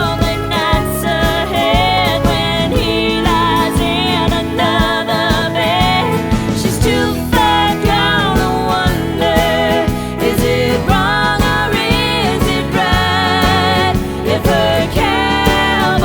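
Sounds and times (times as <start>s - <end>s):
song with sung melody and beat: 0.0s - 16.0s.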